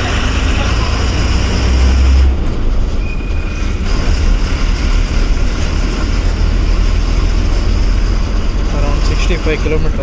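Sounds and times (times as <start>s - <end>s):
bus diesel engine rumble: 0.0s - 10.0s.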